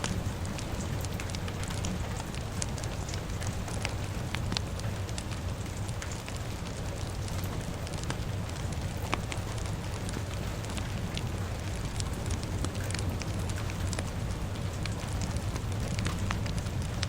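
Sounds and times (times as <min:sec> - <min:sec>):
rain falling: 0:00.0 - 0:17.0
wood fire crackling and popping: 0:00.0 - 0:17.0.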